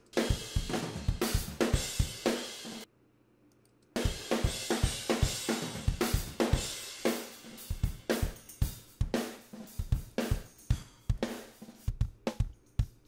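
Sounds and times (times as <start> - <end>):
drum kit hits: 0.2 - 2.8, 4.0 - 12.5.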